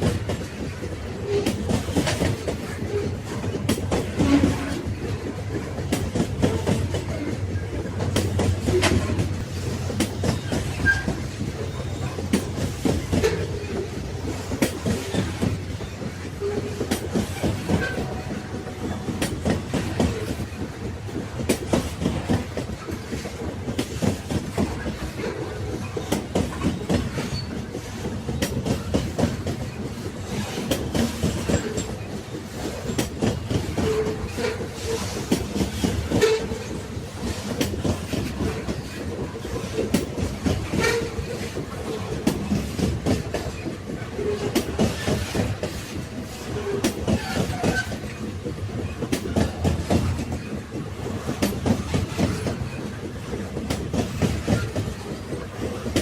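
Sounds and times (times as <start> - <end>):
railway wagons rumbling on track: 0.0 - 56.0
wheel clacks over rail joints: 0.0 - 56.0.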